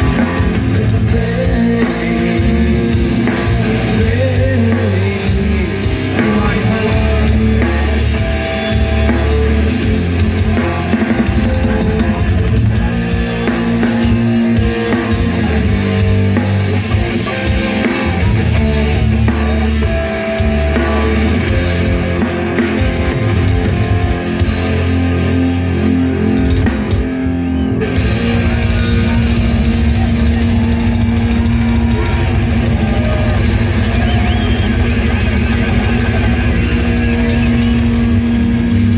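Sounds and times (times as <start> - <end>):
drum kit: 0.0 - 38.9
electric guitar: 0.0 - 38.9.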